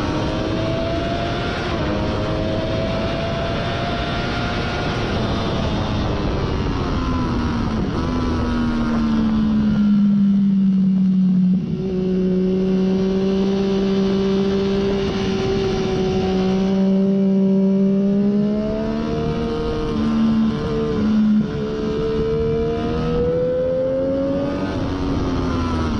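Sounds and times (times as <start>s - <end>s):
motorcycle engine: 0.0s - 25.9s
wind noise: 0.0s - 25.9s.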